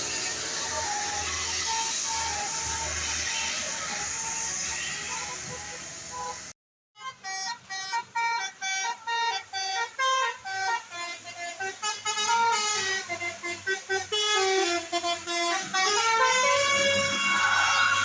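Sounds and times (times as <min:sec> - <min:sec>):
bus horn playing a tune: 0:00.0 - 0:18.0.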